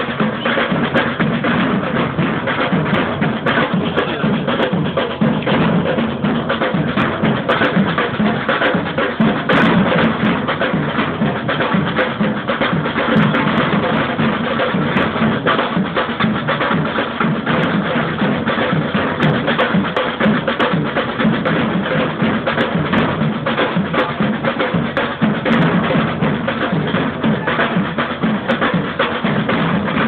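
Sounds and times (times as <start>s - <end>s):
bass drums beating: 0.0s - 30.0s
samba drum band playing: 0.0s - 30.0s.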